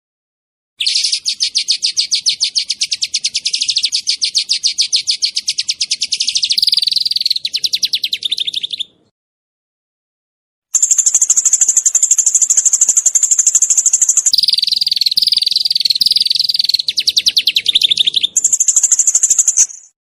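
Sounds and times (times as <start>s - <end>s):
small songbird trilling: 0.8s - 9.0s, 10.8s - 20.0s.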